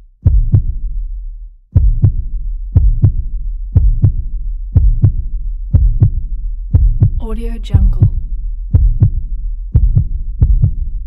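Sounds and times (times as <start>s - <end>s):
steady low drone: 0.0s - 11.0s
heartbeat-like double thumps: 0.2s - 1.1s, 1.7s - 11.0s.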